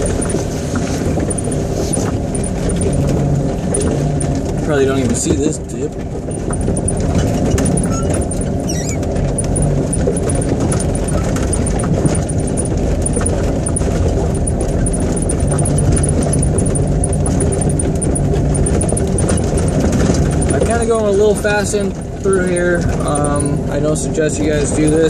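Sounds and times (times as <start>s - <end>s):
knocks and rattles over bumps: 0.0s - 25.0s
vehicle engine running: 0.0s - 25.0s.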